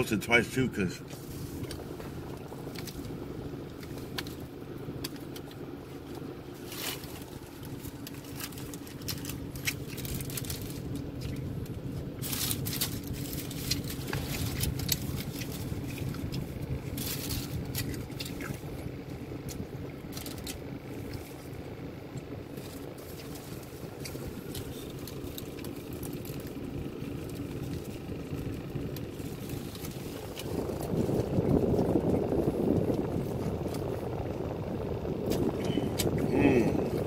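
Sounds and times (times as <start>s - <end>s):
car idling hum: 0.0s - 37.0s.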